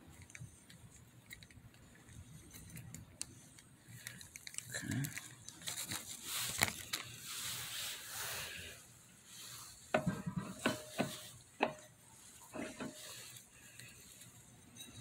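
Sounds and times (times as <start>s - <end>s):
parts rustling and scraping: 0.0s - 15.0s.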